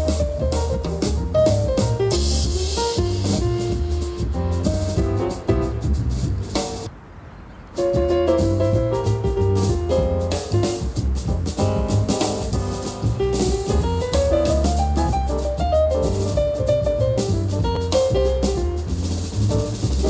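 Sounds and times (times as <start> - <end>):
jazzy piano music with drums: 0.0 - 6.9, 7.7 - 20.0.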